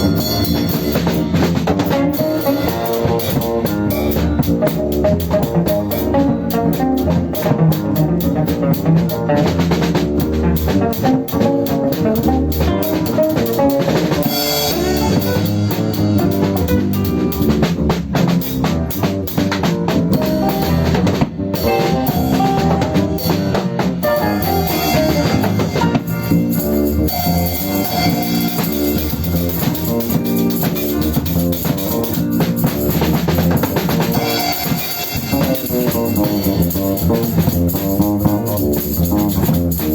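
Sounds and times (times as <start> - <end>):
band music: 0.0 - 39.9.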